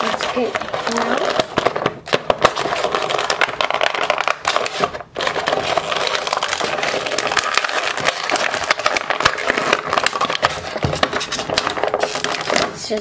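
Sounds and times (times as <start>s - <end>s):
plastic blister tray crinkling: 0.0s - 13.0s.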